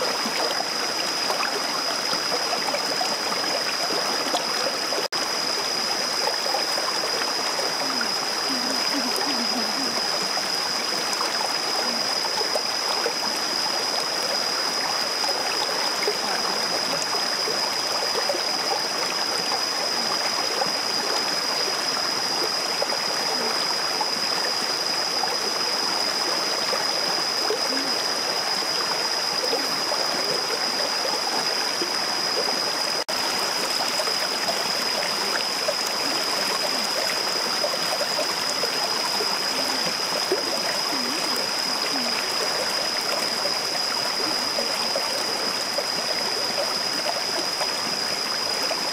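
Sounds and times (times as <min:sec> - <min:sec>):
stream running over rocks: 0:00.0 - 0:48.9.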